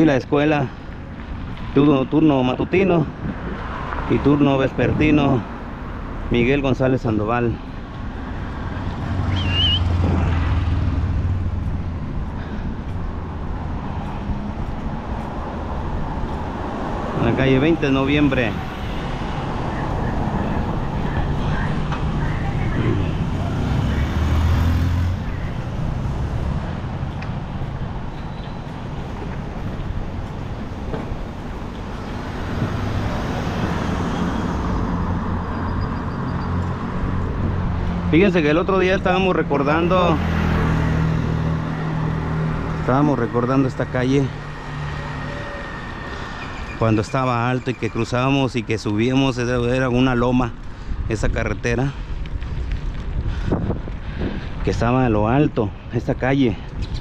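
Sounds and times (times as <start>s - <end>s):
road noise: 0.0s - 57.0s
vehicle engine rumble: 0.0s - 57.0s.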